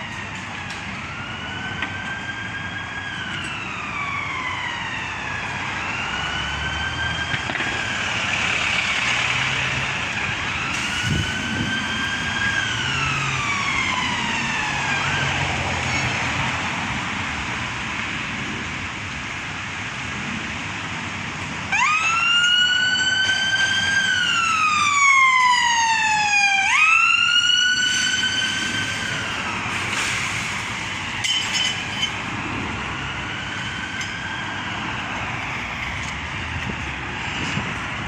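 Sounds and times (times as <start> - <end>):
wailing siren: 0.0 - 19.2, 21.3 - 38.0
traffic noise: 0.0 - 38.0.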